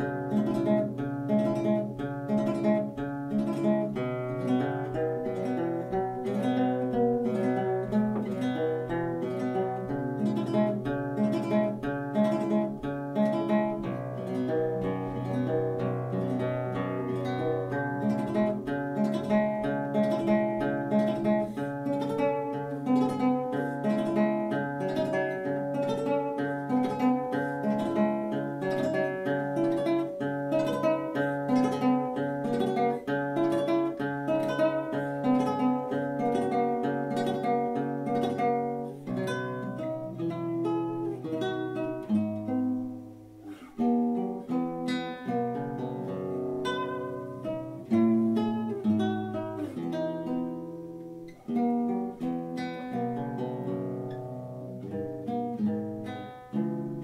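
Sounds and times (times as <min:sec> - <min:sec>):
classical guitar fingerpicked: 0:00.0 - 0:57.0.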